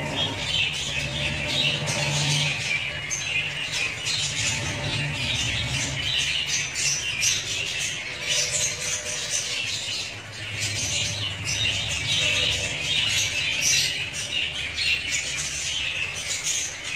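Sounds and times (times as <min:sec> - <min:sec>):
lovebirds chattering and squawking: 0:00.0 - 0:16.9.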